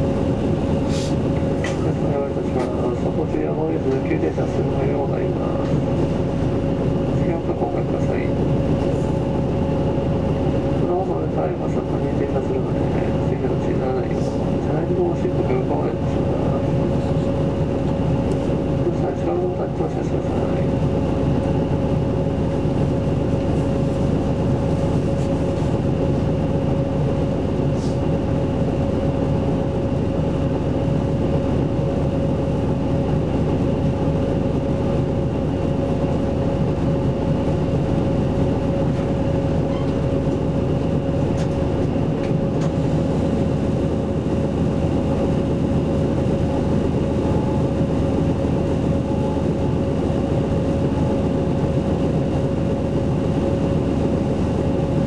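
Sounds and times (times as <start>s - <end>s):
bus engine rumble from inside: 0.0s - 55.0s.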